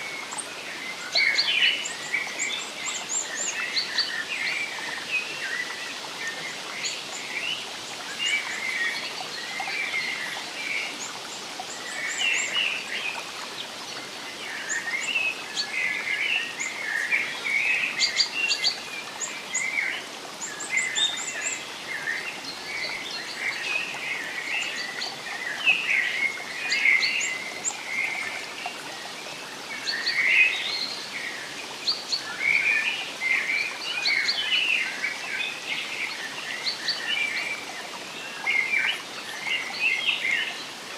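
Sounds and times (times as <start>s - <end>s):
songbirds chirping and warbling: 0.0s - 40.9s.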